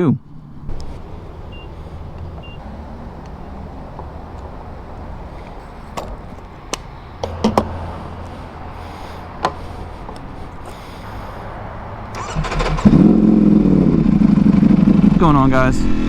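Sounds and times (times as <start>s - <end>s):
motorcycle engine idling and revving: 0.2s - 16.0s.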